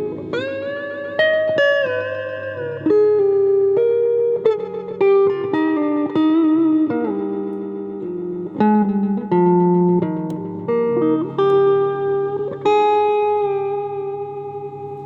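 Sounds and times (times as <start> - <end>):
electric guitar with wah and echo: 0.0 - 15.0.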